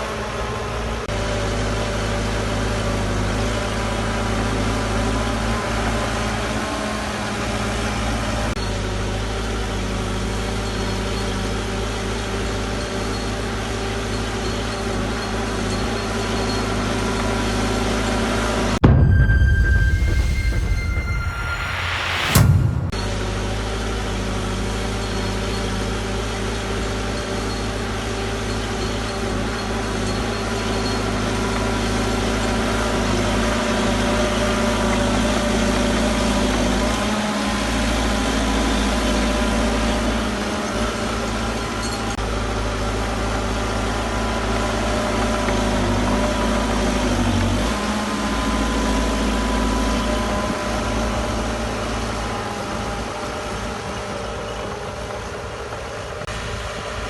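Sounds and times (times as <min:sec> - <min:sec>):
diesel machinery engine droning: 0:00.0 - 0:57.0.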